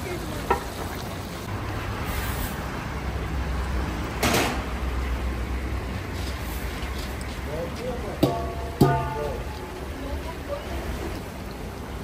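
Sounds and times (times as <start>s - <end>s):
pot of food steaming: 0.0s - 12.0s.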